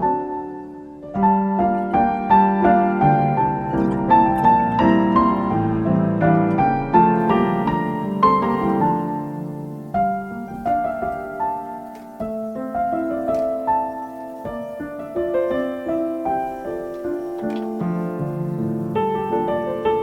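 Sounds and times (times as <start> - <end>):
calm piano music: 0.0 - 20.0.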